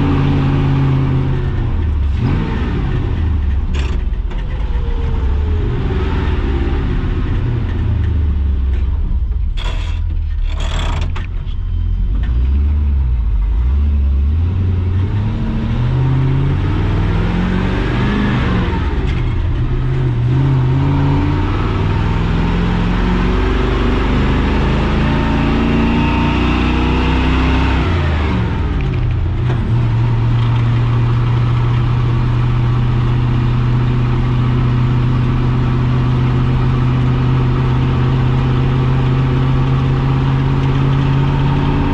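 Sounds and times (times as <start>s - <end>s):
engine revving under load: 0.0s - 8.6s, 11.9s - 41.9s.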